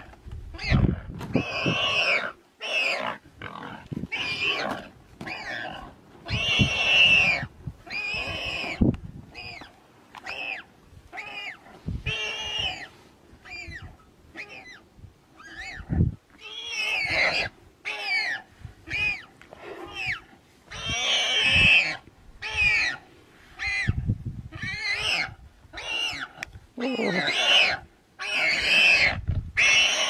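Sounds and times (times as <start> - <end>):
pig squealing: 0.5 - 8.8, 9.4 - 14.8, 15.4 - 30.0.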